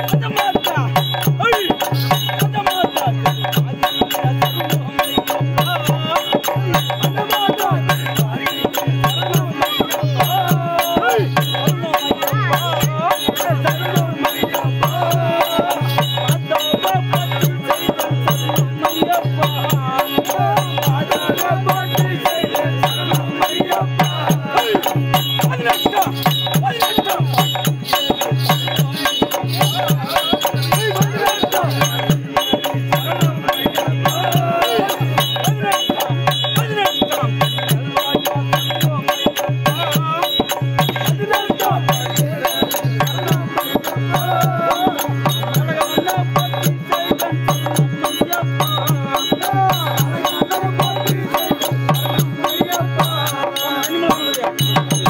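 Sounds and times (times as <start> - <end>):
low drum beat: 5.5 - 53.3.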